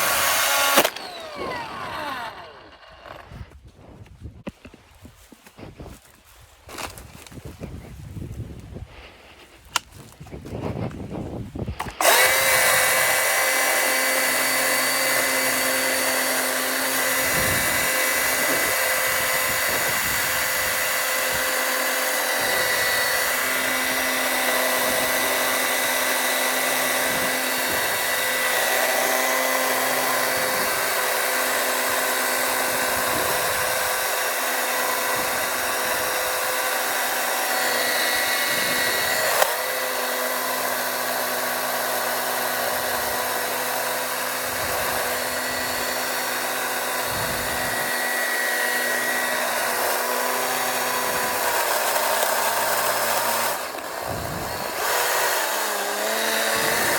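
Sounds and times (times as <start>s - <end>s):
electric chainsaw whining: 0.0s - 3.6s, 8.9s - 56.9s.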